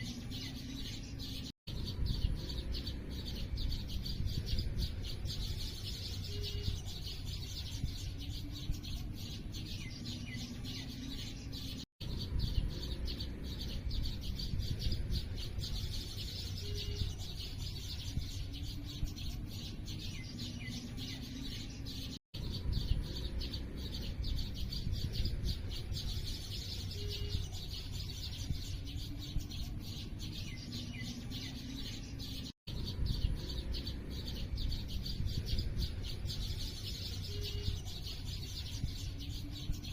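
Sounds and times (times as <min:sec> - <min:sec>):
low background rumble: 0:00.0 - 0:39.9
small birds chirping: 0:00.0 - 0:39.9.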